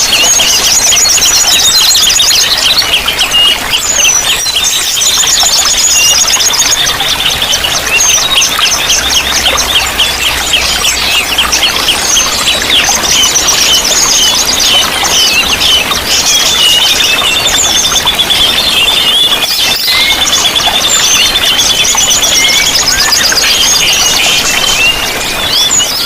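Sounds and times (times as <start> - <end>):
running water: 0.0 - 26.0
songbirds singing: 0.0 - 26.0.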